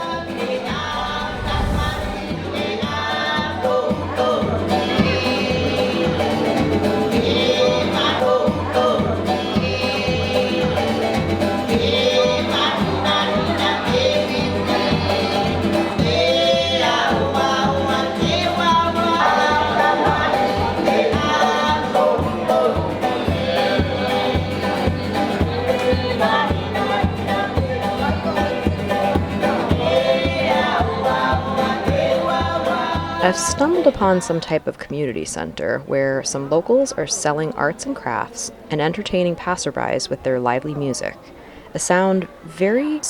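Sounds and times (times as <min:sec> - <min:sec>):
voices singing over instruments: 0:00.0 - 0:34.7.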